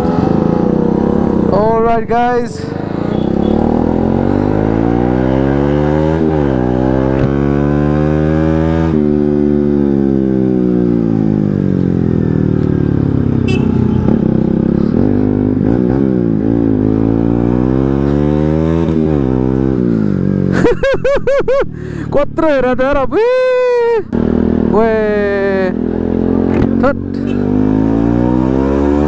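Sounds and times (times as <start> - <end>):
motorcycle engine revving: 0.0 - 20.7, 24.1 - 29.0.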